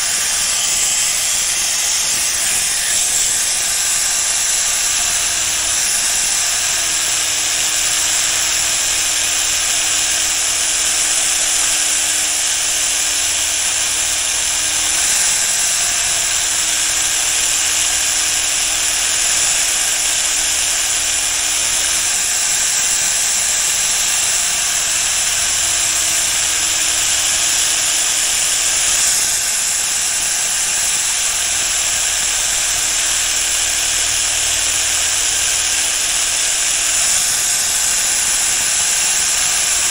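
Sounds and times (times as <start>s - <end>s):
power tool abrasive hiss: 0.0s - 39.9s.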